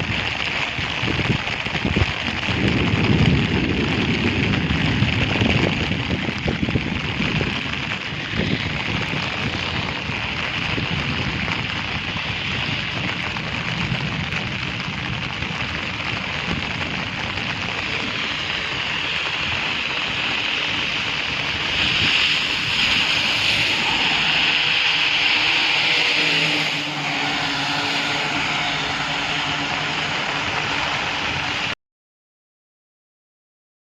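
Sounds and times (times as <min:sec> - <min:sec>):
rain falling in strong wind: 0:00.0 - 0:31.8.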